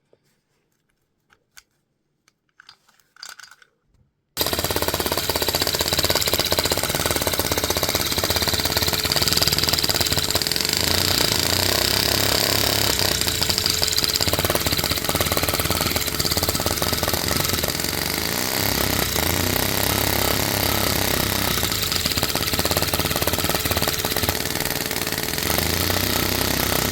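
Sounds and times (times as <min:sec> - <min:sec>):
toy engine plastic clatter: 0:02.3 - 0:26.9.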